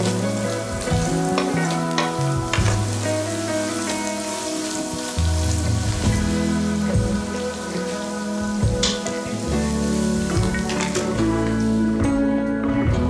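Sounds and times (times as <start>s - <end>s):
onion sizzling in oil: 0.0s - 12.4s
background music with low notes: 0.0s - 13.0s.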